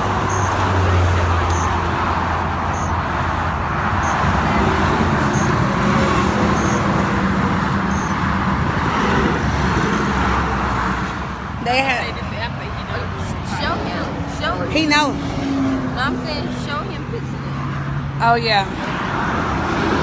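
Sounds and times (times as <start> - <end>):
freeway traffic rushing: 0.0 - 20.0.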